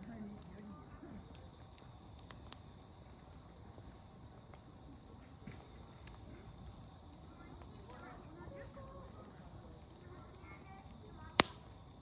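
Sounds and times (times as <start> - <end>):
faint campfire crackle: 0.0 - 12.0
firewood popping: 0.0 - 12.0
insects chirping: 0.0 - 12.0.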